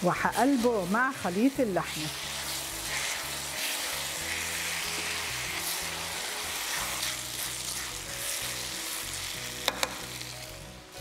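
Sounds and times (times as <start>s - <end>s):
spatula turning food: 0.0s - 10.6s
background music: 0.0s - 11.0s
rice and meat sizzling in a pan: 0.0s - 11.0s.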